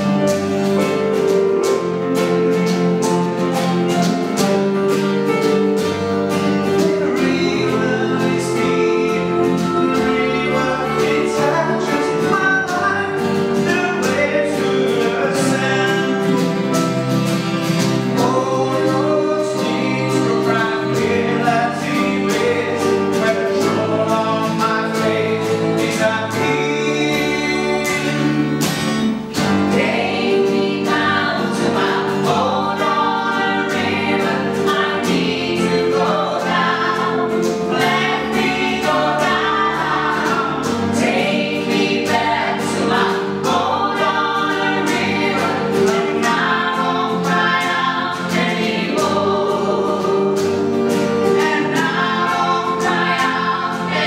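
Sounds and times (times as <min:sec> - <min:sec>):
strummed acoustic guitar: 0:00.0 - 0:54.0
vocal group singing in harmony: 0:00.0 - 0:54.0.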